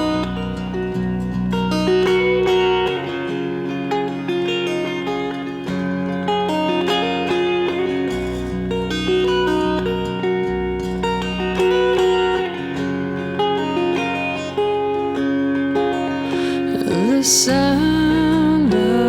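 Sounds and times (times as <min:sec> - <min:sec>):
guitar chords plucked and strummed: 0:00.0 - 0:19.0.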